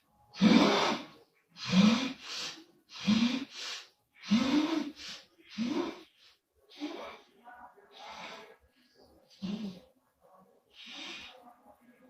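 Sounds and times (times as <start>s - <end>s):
soft breath: 1.1s - 12.0s.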